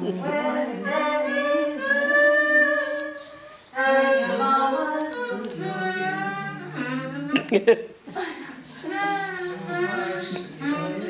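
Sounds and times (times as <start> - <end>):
harmonica slow melody: 0.2 - 7.7, 8.6 - 11.0.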